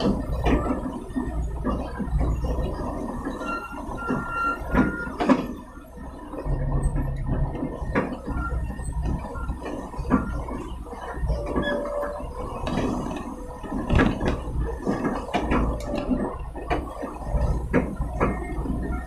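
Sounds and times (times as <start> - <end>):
truck engine rumbling: 0.0 - 19.0
truck knocks and rattles: 0.0 - 19.0.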